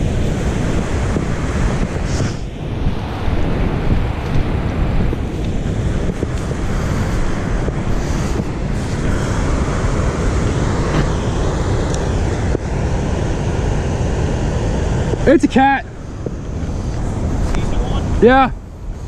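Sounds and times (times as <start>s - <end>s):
spillway water rushing: 0.0s - 19.0s
wind buffeting microphone: 0.0s - 19.0s.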